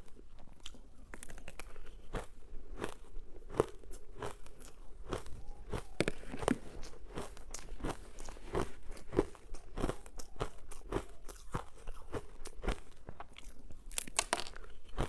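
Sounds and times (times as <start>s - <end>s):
ice being chewed: 0.0s - 15.0s.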